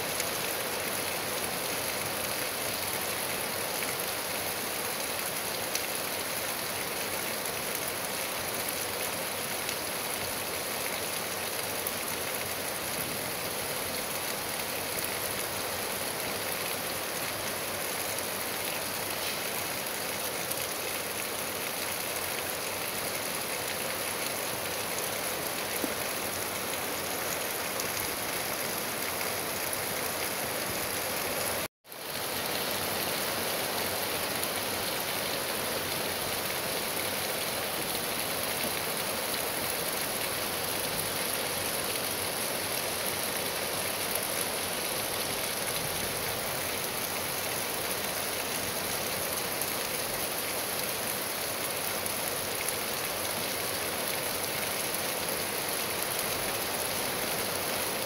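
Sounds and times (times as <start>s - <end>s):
steady rain on trees and grass: 0.0s - 58.0s.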